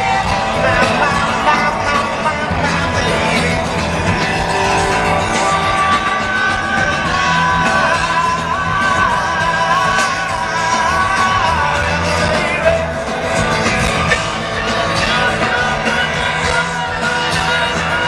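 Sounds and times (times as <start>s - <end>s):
live rock band: 0.0s - 18.0s
singer holding long notes: 0.0s - 18.0s.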